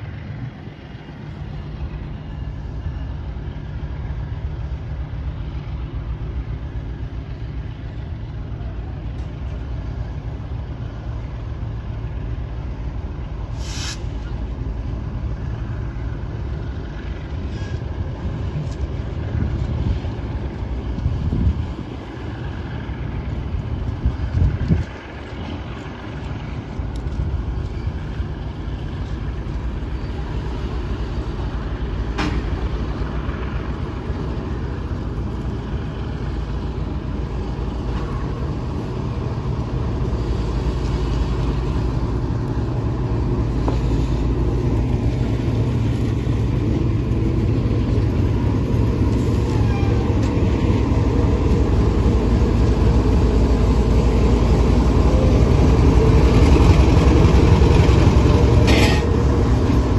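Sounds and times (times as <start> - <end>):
locomotive rumbling: 0.0 - 59.9.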